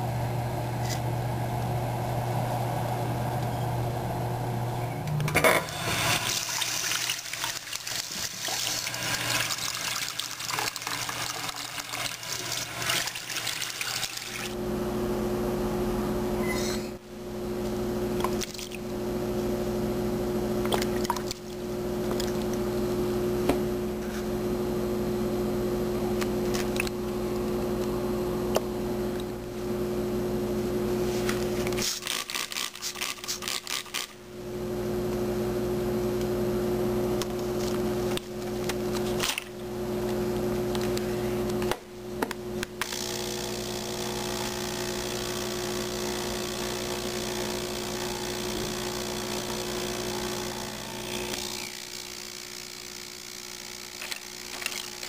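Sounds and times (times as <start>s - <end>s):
ultrasonic cleaner buzzing: 5.3s - 16.5s, 17.2s - 55.0s.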